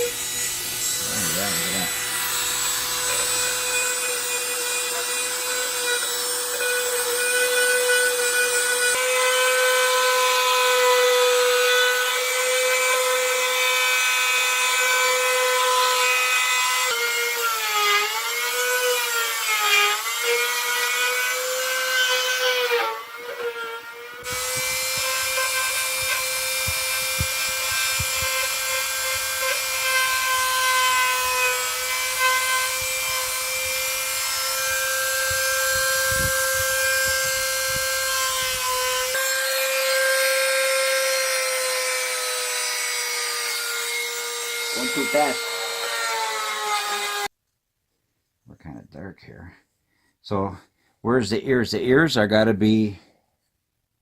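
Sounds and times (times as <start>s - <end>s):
rotary tool grinding wood: 0.0s - 47.3s.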